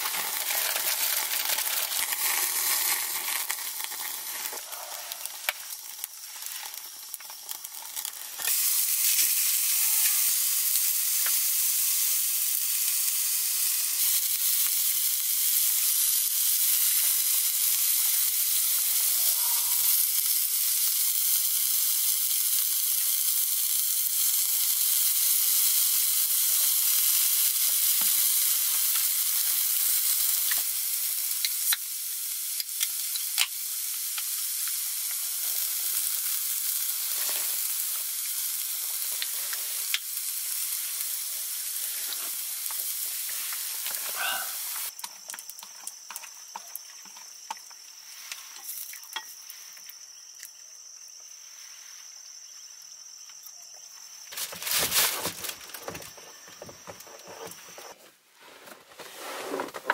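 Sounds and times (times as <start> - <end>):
meat sizzling on grill: 0.0 - 58.0.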